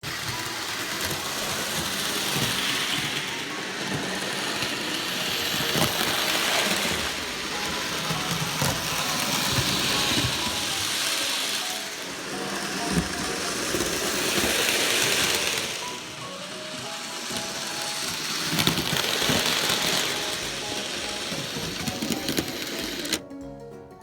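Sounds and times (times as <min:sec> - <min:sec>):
model train running on track: 0:00.0 - 0:23.2.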